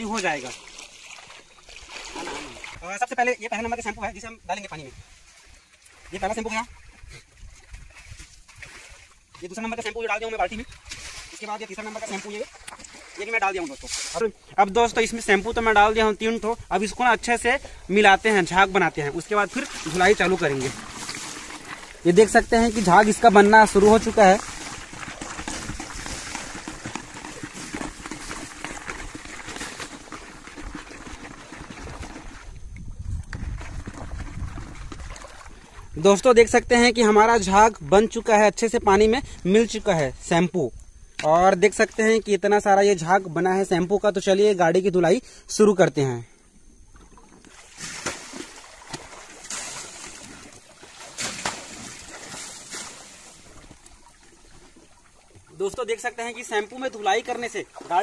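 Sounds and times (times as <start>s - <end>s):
water sloshing in a bucket: 0.0s - 38.2s, 46.5s - 58.0s.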